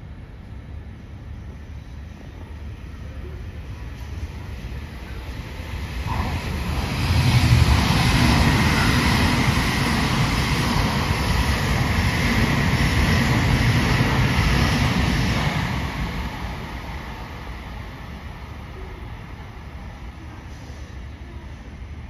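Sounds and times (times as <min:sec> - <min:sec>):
train rushing past: 0:01.4 - 0:22.0.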